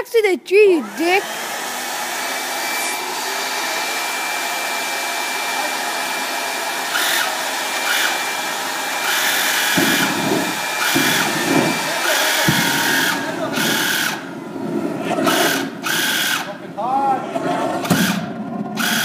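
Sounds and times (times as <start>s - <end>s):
jet engine roaring: 0.9s - 19.0s.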